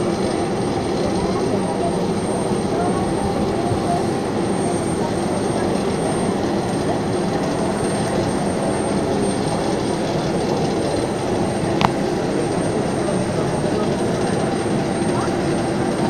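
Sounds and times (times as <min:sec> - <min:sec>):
jet aircraft rumble and whine: 0:00.0 - 0:16.0.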